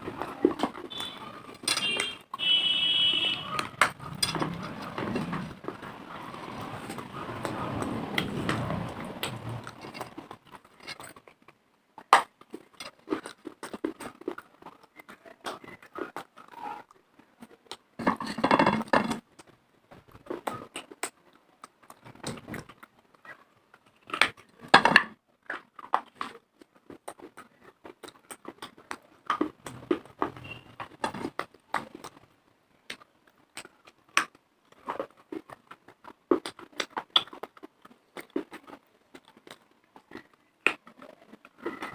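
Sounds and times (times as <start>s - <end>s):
crunching chews of dry clay: 0.0s - 18.0s, 25.4s - 41.9s.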